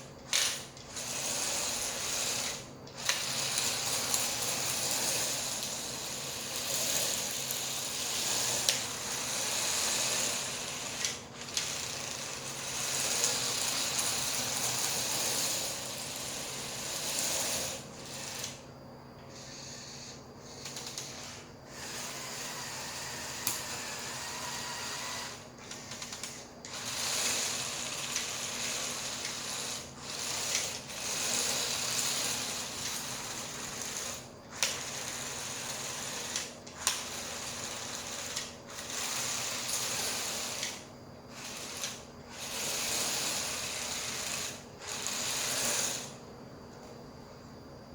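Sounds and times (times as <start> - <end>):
toy motors and gears whirring: 0.0 - 46.3.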